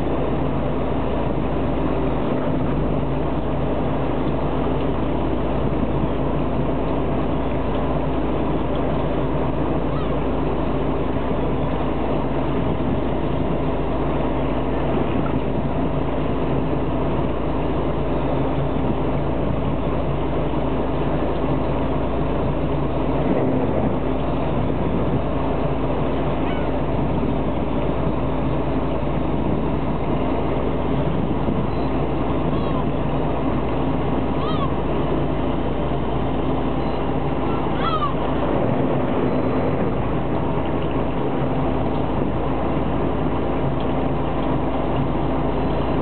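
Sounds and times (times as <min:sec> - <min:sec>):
boat engine humming: 0:00.0 - 0:46.0.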